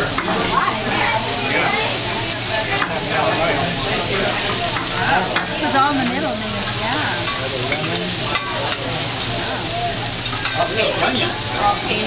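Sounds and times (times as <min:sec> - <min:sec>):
diners' voices: 0:00.0 - 0:12.0
food sizzling on griddle: 0:00.0 - 0:12.0.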